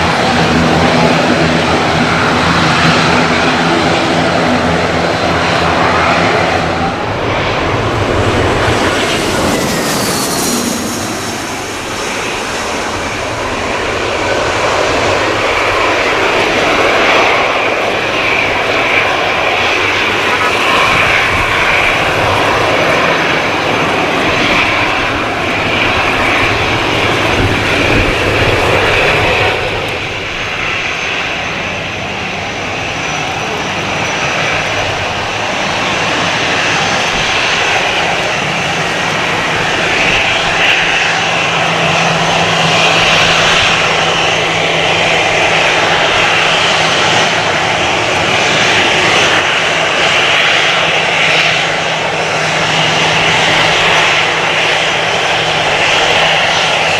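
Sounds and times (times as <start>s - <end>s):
airliner jet engines: 0.0s - 56.9s.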